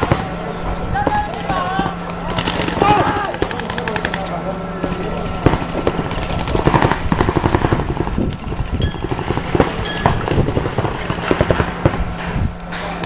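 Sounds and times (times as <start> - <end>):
steady low hum: 0.0 - 13.0
sharp clicks and cracks: 1.0 - 13.0.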